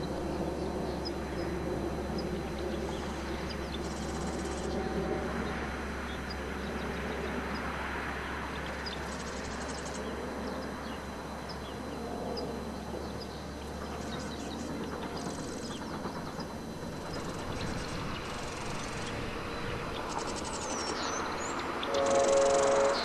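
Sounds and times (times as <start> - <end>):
birds chirping: 0.0 - 23.0
distant train rumble: 0.0 - 23.0
insect trills: 0.0 - 23.0.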